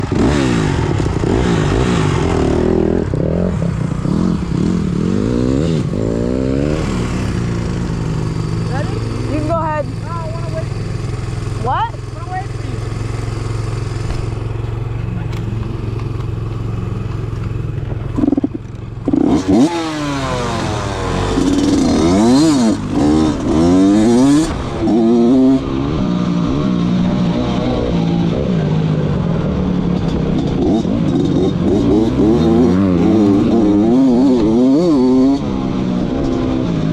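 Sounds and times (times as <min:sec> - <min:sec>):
dirt bike engine idling and revving: 0:00.0 - 0:36.9.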